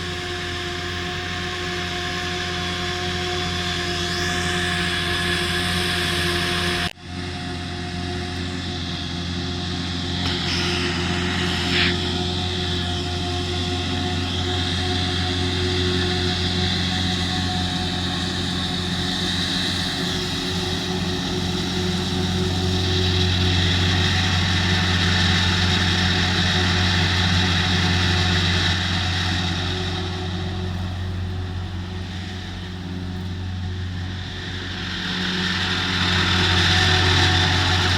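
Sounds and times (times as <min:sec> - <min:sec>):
heavy diesel farm machinery: 0:00.0 - 0:37.9
high engine whine: 0:00.0 - 0:37.9.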